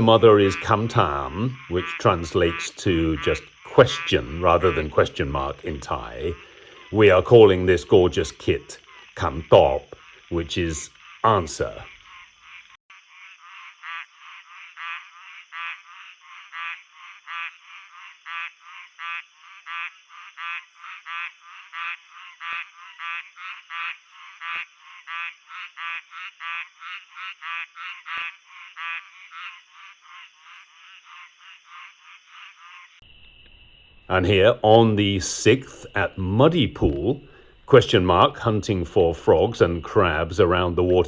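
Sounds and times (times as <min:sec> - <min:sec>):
frogs croaking: 0:00.0 - 0:41.0.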